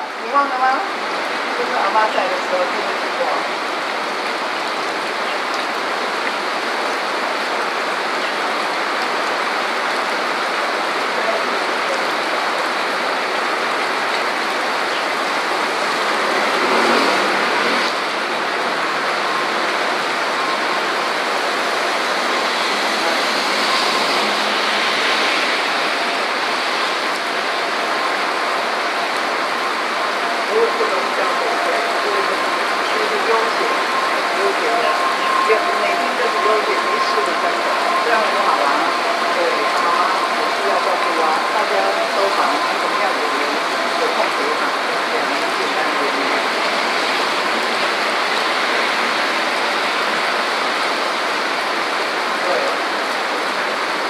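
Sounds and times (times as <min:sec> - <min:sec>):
heavy rain on street: 0:00.0 - 0:54.0
tyres swishing on wet road: 0:00.0 - 0:54.0.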